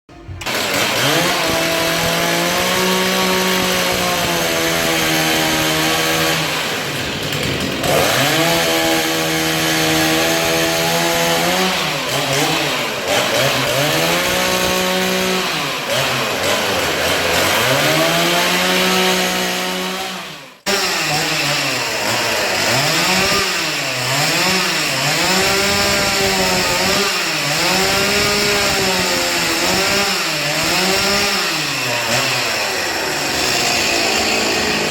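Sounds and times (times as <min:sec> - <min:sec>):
chainsaw cutting wood: 0:00.3 - 0:34.9.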